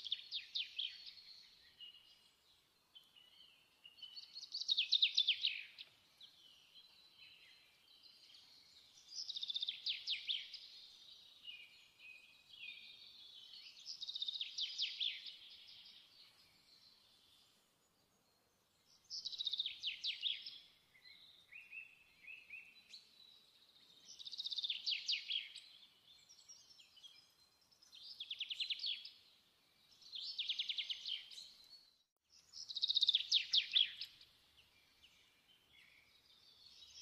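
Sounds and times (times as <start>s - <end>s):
soft bird chirps: 0.0s - 37.0s.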